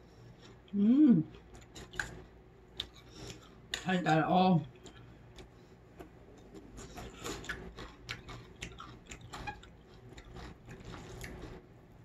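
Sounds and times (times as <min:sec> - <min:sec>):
person chewing crunchy food: 0:00.2 - 0:03.8, 0:04.6 - 0:11.7.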